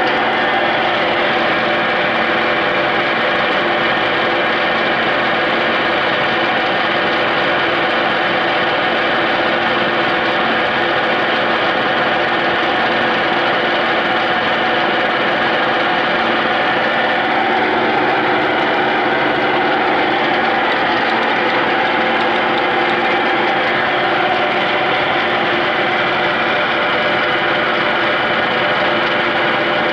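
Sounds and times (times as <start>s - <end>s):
lathe running: 0.0s - 29.9s.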